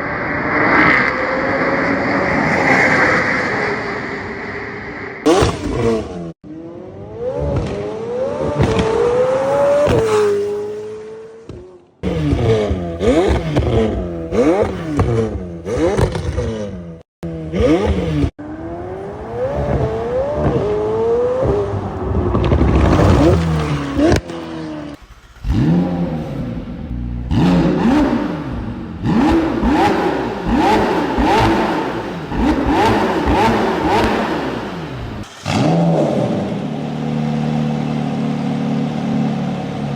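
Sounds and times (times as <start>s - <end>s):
car engine revving and accelerating: 0.0s - 39.9s.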